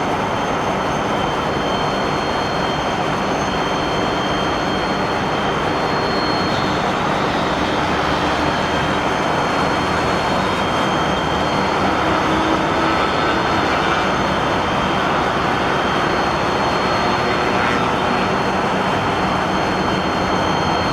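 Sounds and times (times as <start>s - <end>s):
high whine: 0.0s - 20.9s
jet engines running: 0.0s - 20.9s.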